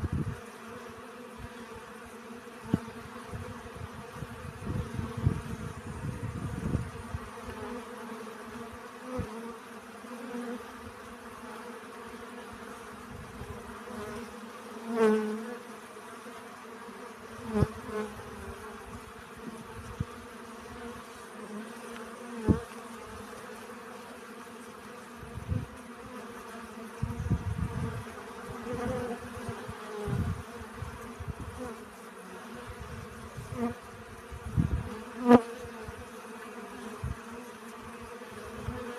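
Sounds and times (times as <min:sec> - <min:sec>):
bees buzzing: 0:00.0 - 0:38.9
single bee flying past: 0:00.0 - 0:38.9.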